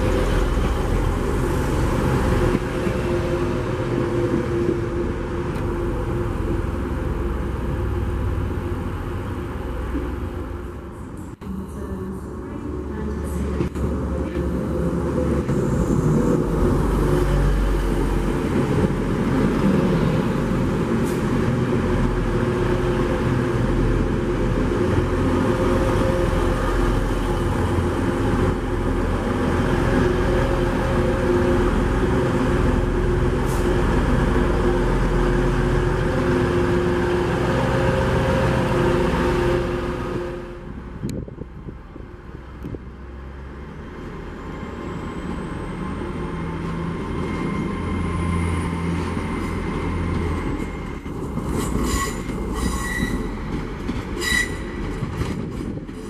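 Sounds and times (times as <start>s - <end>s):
diesel train engine hum: 0.0s - 56.0s
train wheels rumbling on rails: 0.0s - 56.0s.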